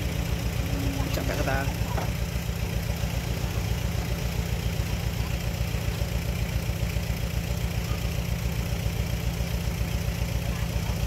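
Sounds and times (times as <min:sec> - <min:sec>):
diesel engine throbbing: 0:00.0 - 0:11.0.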